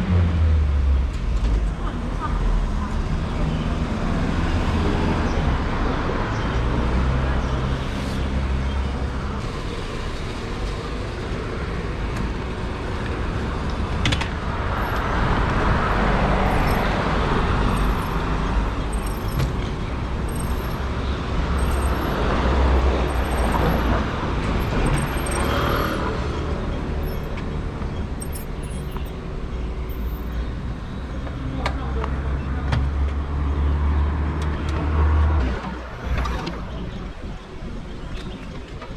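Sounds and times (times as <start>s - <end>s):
road traffic rumble: 0.0s - 38.9s
vehicles passing: 0.0s - 38.9s.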